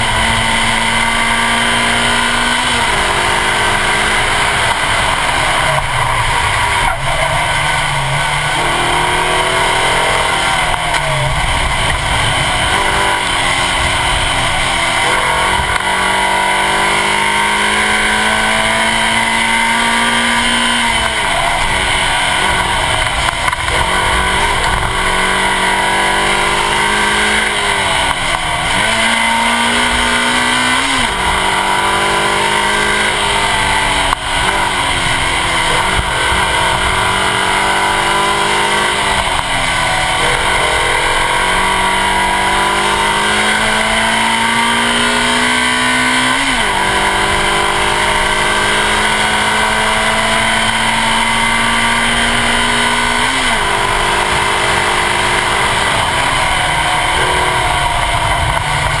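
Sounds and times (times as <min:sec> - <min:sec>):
rally car engine revving: 0:00.0 - 0:59.0
wind and tyre noise: 0:00.0 - 0:59.0.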